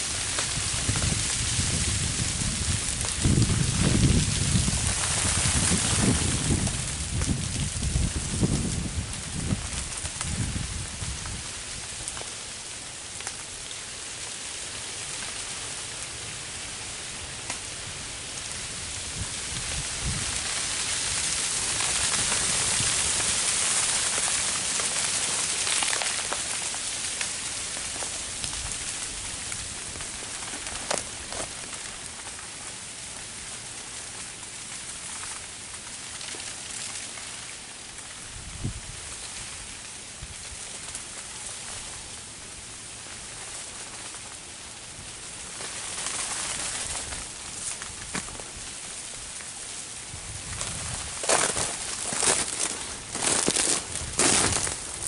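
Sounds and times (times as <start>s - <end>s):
freezing rain pattering on branches: 0.0s - 55.0s.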